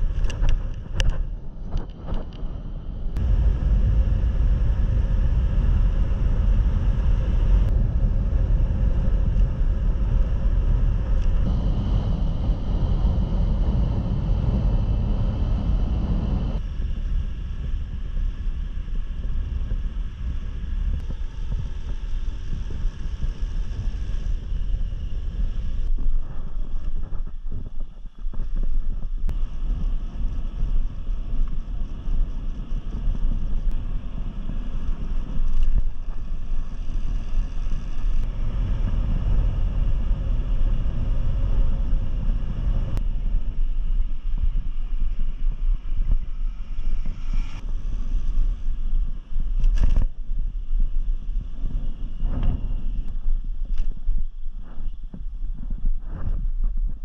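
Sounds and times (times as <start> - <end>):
motorcycle engine rumble: 0.0 - 53.4
wind rushing over microphone: 0.0 - 57.0.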